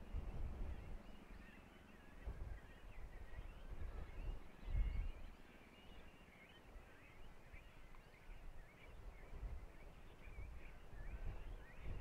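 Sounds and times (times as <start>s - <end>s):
wind gusts on microphone: 0.0s - 5.3s, 7.5s - 12.0s
songbirds chirping: 0.0s - 12.0s.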